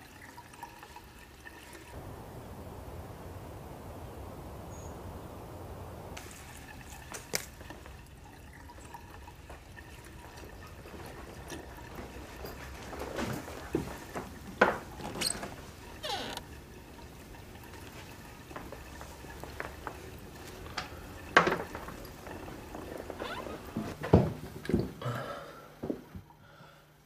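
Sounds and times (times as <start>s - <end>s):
low steady background noise: 0.0s - 27.0s.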